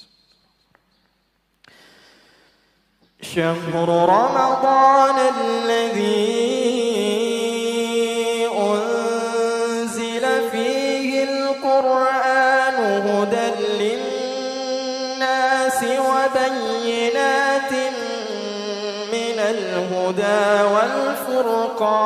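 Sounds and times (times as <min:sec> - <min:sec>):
man reciting melodically: 0:03.0 - 0:22.0.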